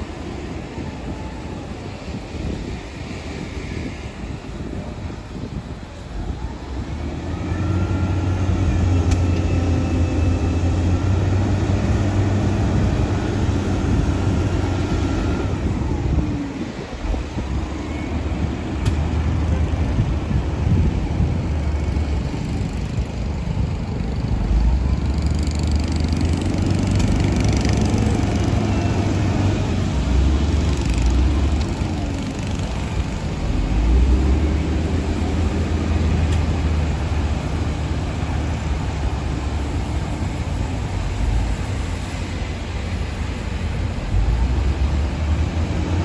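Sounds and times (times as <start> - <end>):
bulldozer diesel engine rumbling: 0.0 - 46.0.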